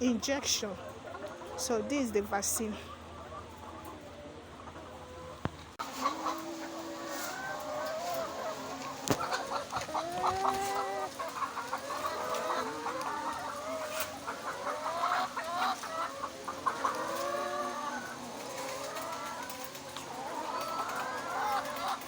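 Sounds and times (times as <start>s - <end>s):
hens clucking: 0.0s - 22.0s.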